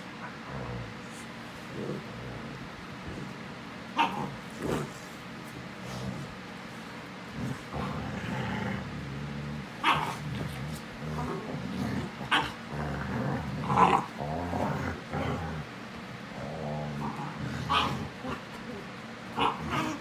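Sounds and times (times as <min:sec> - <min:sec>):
dogs play growling: 0:00.0 - 0:20.0.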